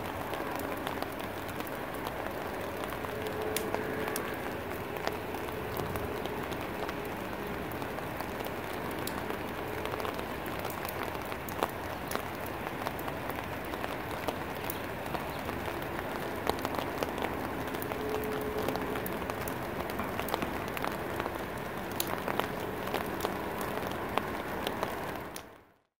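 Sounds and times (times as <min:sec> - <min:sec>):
rain on foliage: 0:00.0 - 0:25.9
raindrops ticking on leaves: 0:00.0 - 0:25.9.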